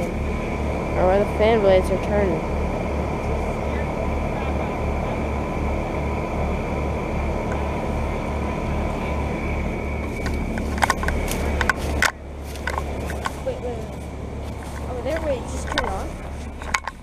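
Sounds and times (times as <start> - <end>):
heat pump fan and compressor: 0.0 - 17.0.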